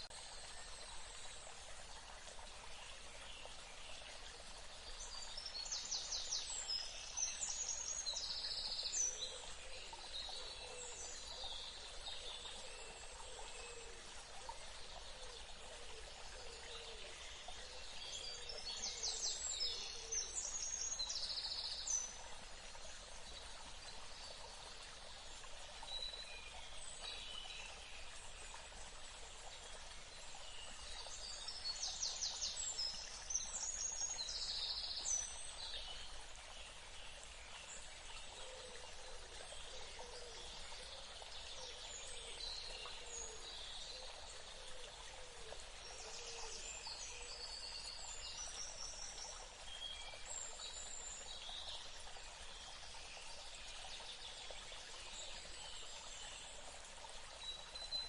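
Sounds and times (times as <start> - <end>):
running water hiss: 0.0 - 58.0.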